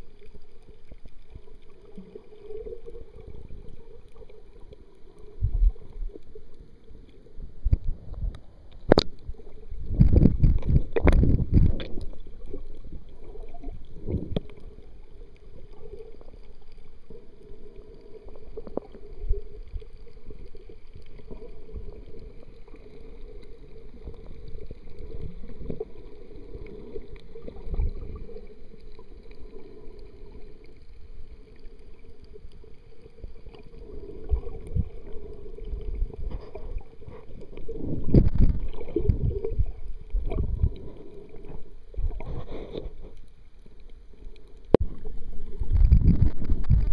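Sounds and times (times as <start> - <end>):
muffled underwater rumbling: 0.0 - 46.9
water swishing and bumps: 0.0 - 46.9.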